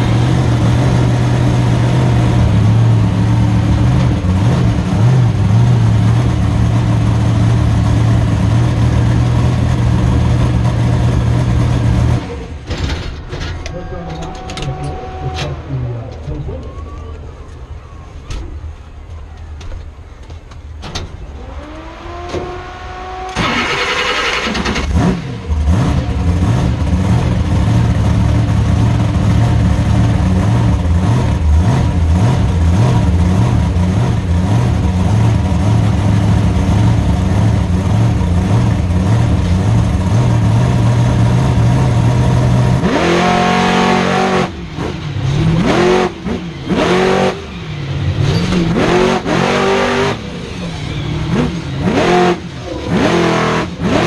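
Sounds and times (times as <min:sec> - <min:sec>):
truck engine revving: 0:00.0 - 0:19.3, 0:20.7 - 0:54.0.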